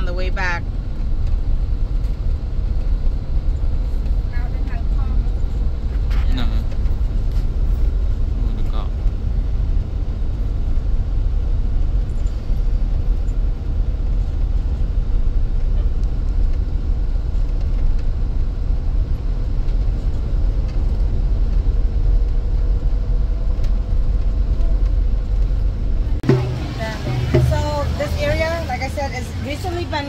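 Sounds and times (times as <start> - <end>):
wind noise: 0.0 - 28.8
motorbike engine hum: 0.0 - 30.0
road noise: 0.0 - 30.0.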